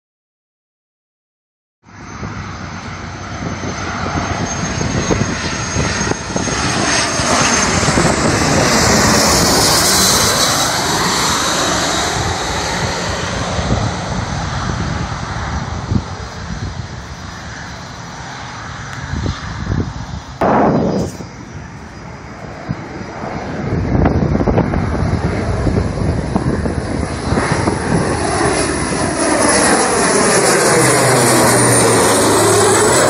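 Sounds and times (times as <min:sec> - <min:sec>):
jet passing overhead: 0:01.9 - 0:33.0.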